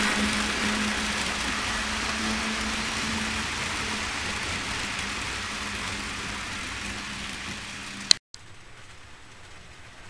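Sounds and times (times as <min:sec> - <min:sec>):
model train running on track: 0:00.0 - 0:08.2.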